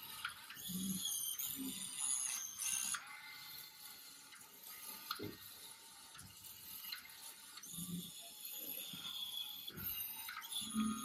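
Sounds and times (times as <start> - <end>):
small gear motors whirring: 0.0 - 11.0.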